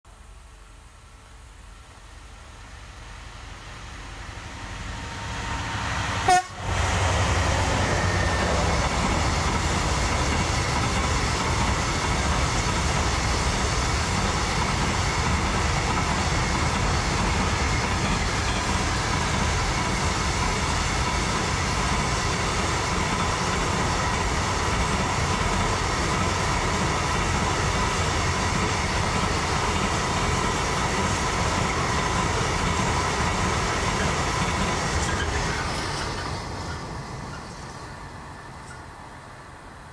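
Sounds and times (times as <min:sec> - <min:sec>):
train passing: 0:00.5 - 0:39.9.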